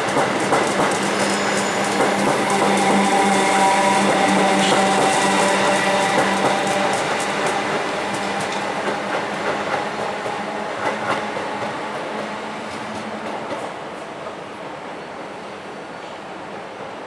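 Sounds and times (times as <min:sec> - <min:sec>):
train wheels clicking over rail joints: 0:00.0 - 0:13.8
train hum: 0:00.0 - 0:17.0.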